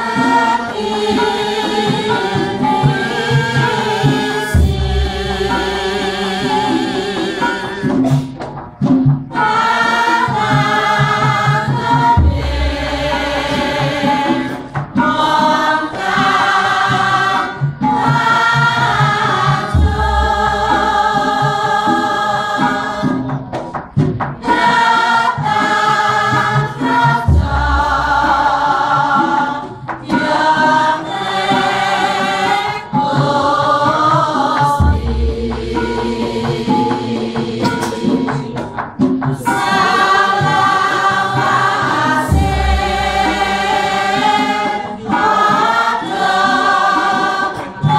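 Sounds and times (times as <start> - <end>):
gamelan: 0.0 - 47.9
group singing: 0.0 - 47.9.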